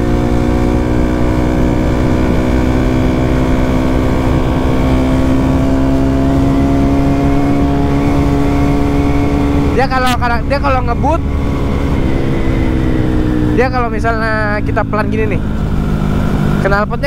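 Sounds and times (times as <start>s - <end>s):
motorcycle engine riding: 0.0s - 17.0s.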